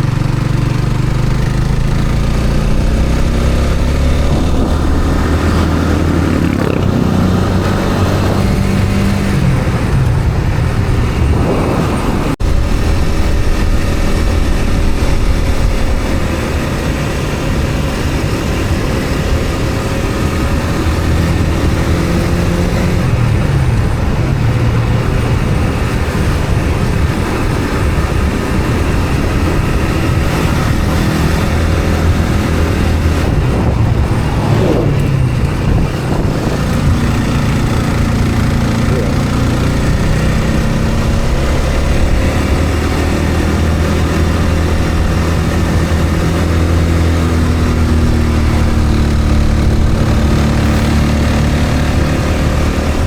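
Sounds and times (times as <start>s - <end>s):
road noise: 0.0s - 53.0s
vehicle engine drone: 0.0s - 53.0s.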